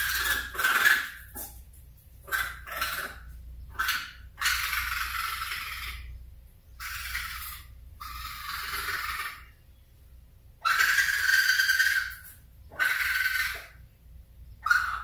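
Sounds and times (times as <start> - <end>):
baby raccoon calling: 0.0 - 1.6, 2.2 - 9.9, 10.5 - 15.0.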